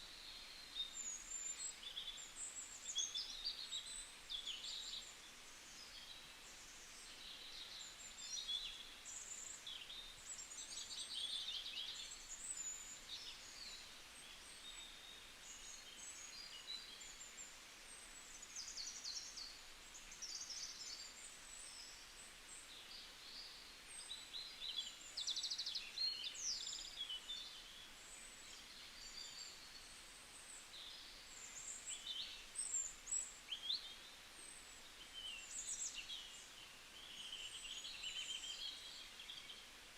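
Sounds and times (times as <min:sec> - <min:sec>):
faint forest hiss: 0:00.0 - 0:39.9.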